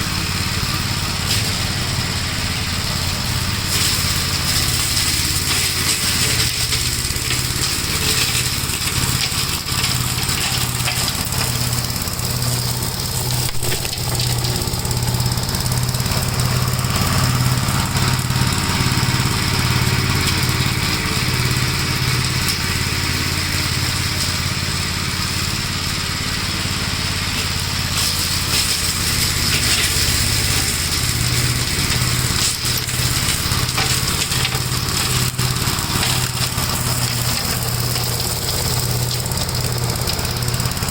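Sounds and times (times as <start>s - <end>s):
single-cylinder engine running: 0.0s - 40.9s.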